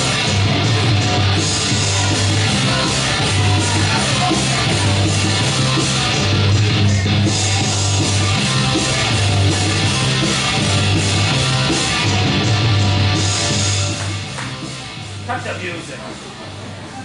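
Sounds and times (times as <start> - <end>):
loud rock music: 0.0 - 16.9.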